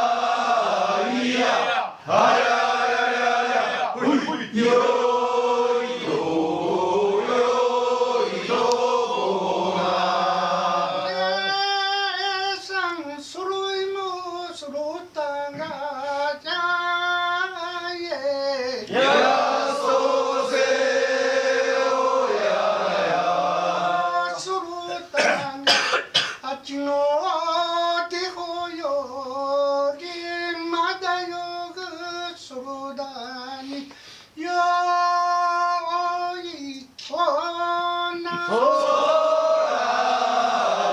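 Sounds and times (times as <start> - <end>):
voices singing work song: 0.0 - 40.9.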